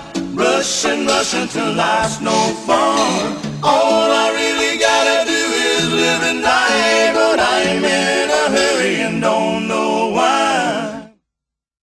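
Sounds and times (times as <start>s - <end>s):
voices singing country song: 0.0s - 11.2s.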